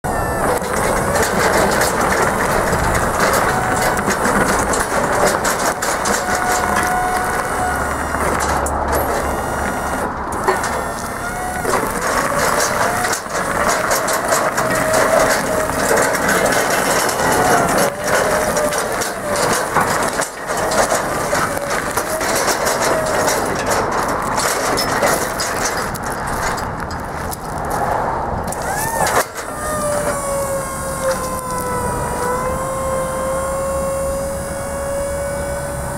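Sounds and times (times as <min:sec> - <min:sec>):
electric motor whine: 0:00.0 - 0:23.5, 0:28.5 - 0:35.9
tyres crunching over gravel: 0:00.0 - 0:35.9.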